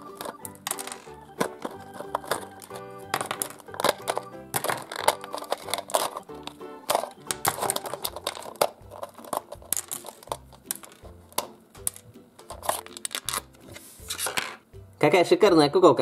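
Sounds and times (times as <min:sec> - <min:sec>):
plastic crinkling and crackling: 0:00.0 - 0:11.5, 0:12.5 - 0:14.6
faint background music: 0:00.0 - 0:16.0.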